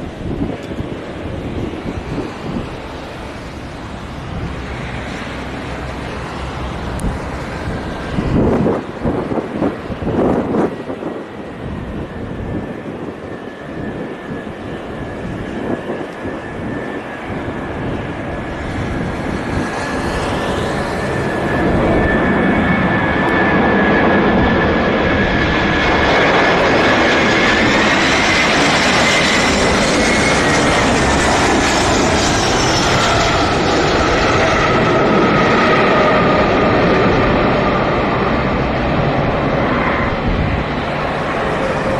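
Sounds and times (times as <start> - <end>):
high jet whine: 0.0 - 41.9
jet engines roaring: 0.0 - 41.9.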